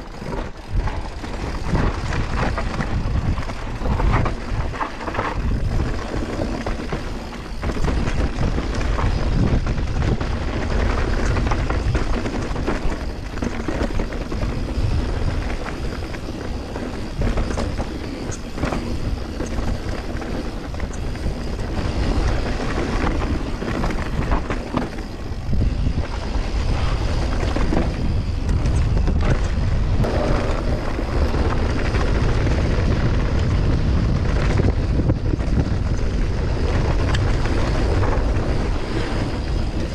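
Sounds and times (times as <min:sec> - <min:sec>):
bike knocks and rattles: 0:00.0 - 0:39.9
tyres rolling on dirt: 0:00.0 - 0:39.9
wind rushing over microphone: 0:00.0 - 0:39.9.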